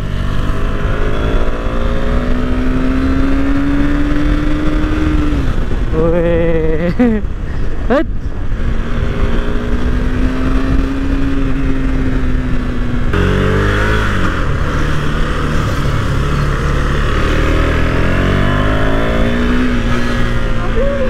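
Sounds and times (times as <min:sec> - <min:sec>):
wind rush: 0:00.1 - 0:21.0.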